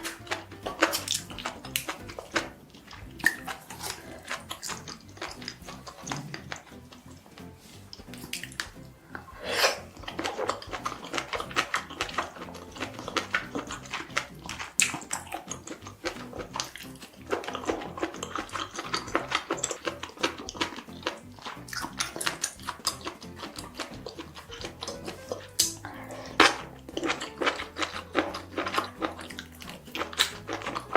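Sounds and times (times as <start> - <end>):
person chewing with wet mouth clicks: 0.0 - 7.2, 7.9 - 8.8, 9.5 - 30.9.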